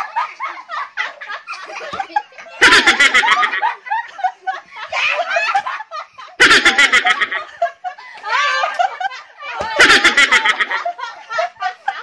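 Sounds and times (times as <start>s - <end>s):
light giggling: 0.0s - 12.0s
people laughing: 0.0s - 12.0s.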